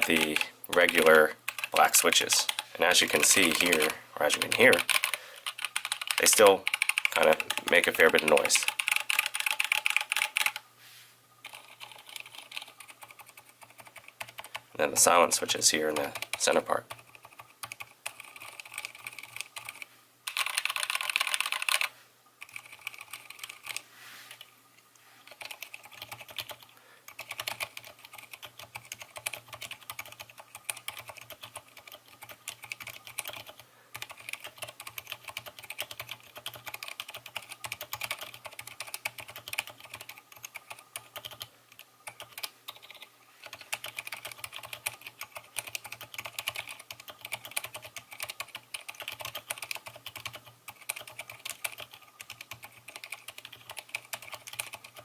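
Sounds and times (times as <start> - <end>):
muted keyboard typing: 0.0 - 10.6, 11.4 - 24.4, 25.3 - 55.0.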